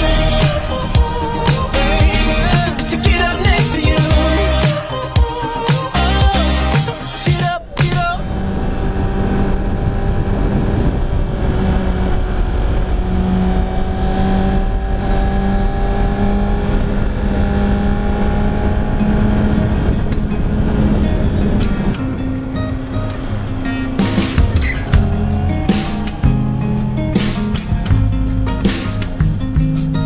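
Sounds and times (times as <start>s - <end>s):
motorcycle engine cruising: 0.0s - 29.9s.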